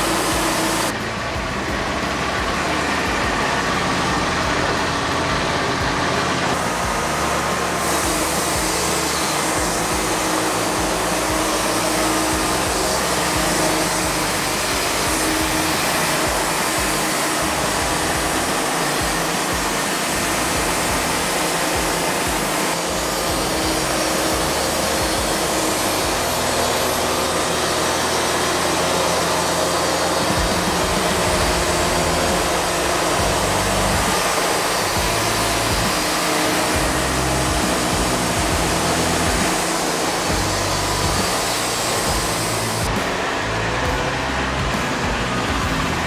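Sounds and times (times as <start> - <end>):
band sawmill cutting log: 0.0 - 46.0.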